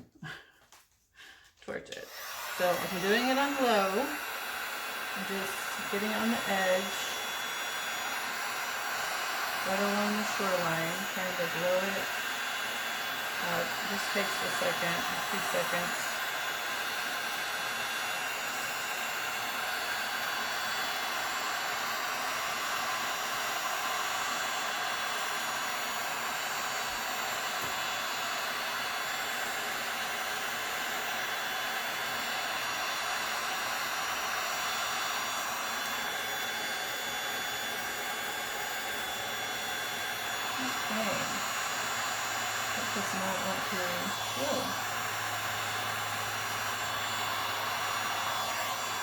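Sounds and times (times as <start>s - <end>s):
heat gun blowing hot air: 1.9s - 49.0s.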